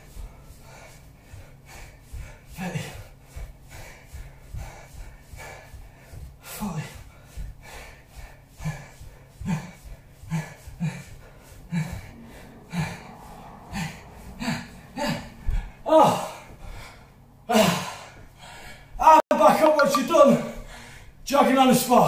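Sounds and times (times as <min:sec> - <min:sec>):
man breathing hard: 0:00.0 - 0:19.0, 0:20.4 - 0:21.2.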